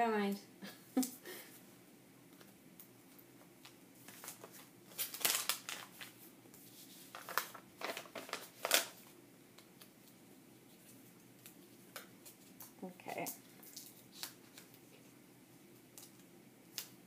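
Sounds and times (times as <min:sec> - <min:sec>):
plastic sleeves rustling and crinkling: 0:03.1 - 0:17.0.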